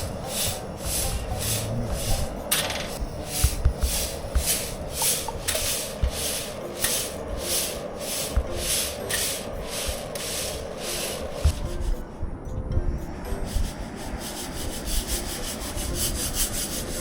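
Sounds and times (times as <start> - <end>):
rhythmic scraping: 0.0 - 17.0.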